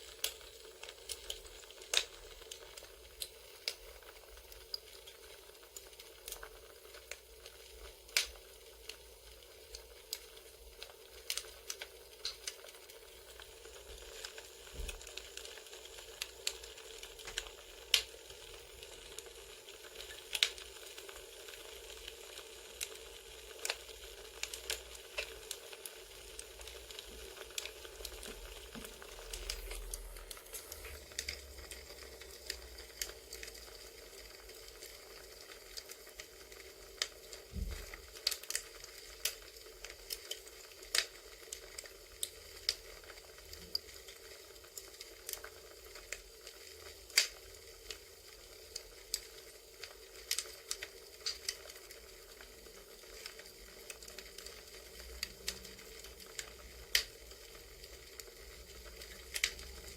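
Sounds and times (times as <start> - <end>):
fire popping: 0.0 - 59.9
soft steady hiss: 0.0 - 59.9
wood fire crackling: 0.0 - 59.9.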